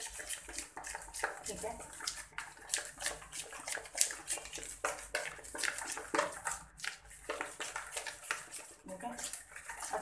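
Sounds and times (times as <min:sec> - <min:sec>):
hand squelching marinade in bowl: 0:00.0 - 0:10.0.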